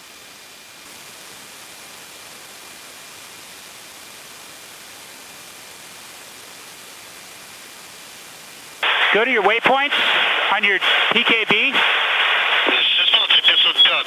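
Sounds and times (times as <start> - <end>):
faint high whine: 0.0 - 14.0
radio static hiss: 0.0 - 14.0.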